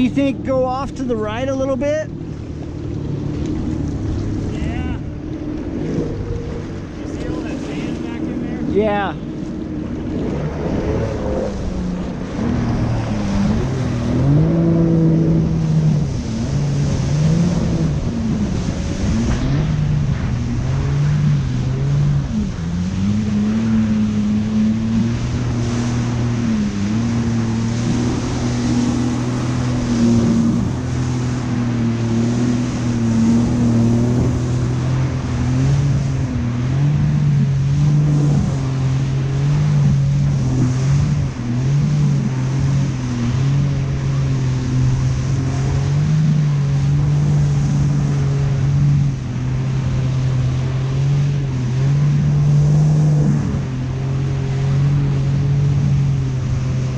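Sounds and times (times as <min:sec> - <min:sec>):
personal watercraft engine running: 0:00.0 - 0:56.9
wind and water spray rushing: 0:00.0 - 0:56.9.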